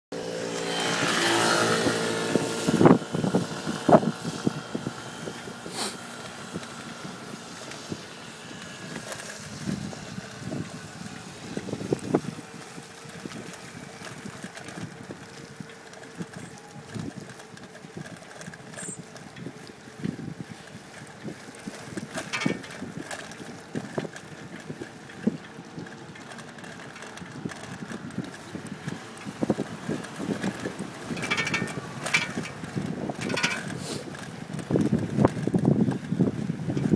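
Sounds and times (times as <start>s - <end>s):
low hum of riding: 0.1s - 36.9s
wind buffeting microphone: 0.3s - 36.9s.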